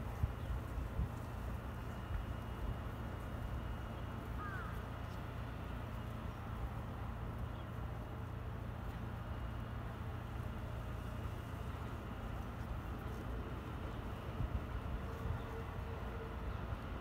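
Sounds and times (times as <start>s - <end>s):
rail yard rumble: 0.0s - 17.0s.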